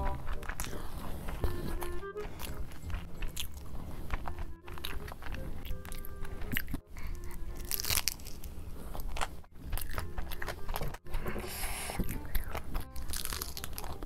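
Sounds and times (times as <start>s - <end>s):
crisp bite: 0.0s - 14.0s
wet chewing and crunching: 0.0s - 14.0s.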